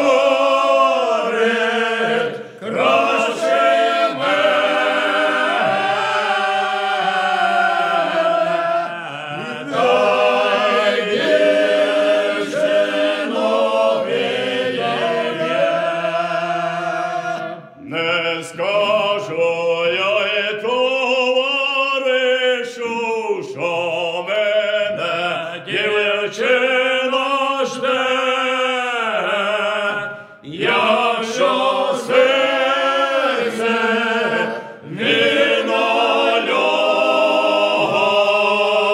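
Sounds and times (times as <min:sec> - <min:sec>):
group singing folk song unaccompanied: 0:00.0 - 0:38.9.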